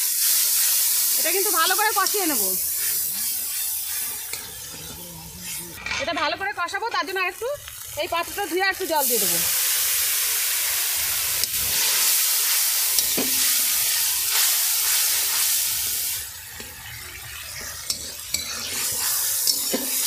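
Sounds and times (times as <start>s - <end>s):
spices sizzling in oil: 0.0s - 20.0s.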